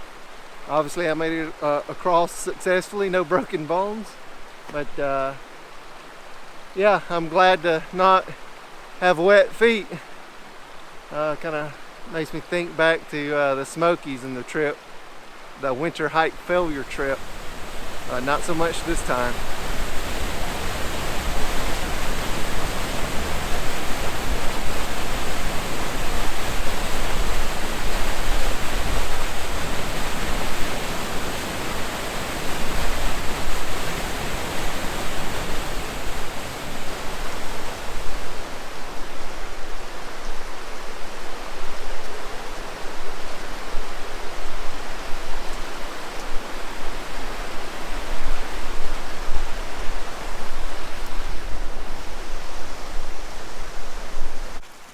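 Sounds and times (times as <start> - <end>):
creek rushing over rocks: 0.0 - 54.9.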